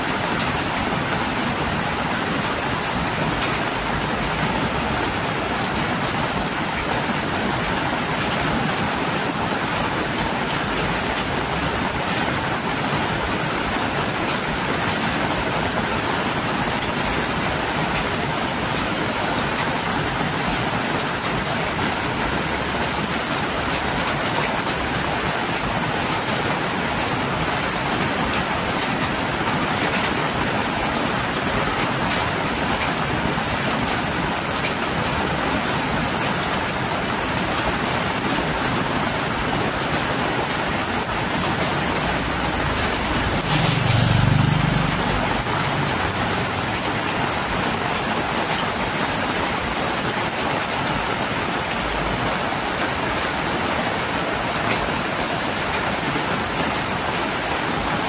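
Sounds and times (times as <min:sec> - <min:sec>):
heavy rain falling: 0:00.0 - 0:58.0
water streaming off roof: 0:00.0 - 0:58.0.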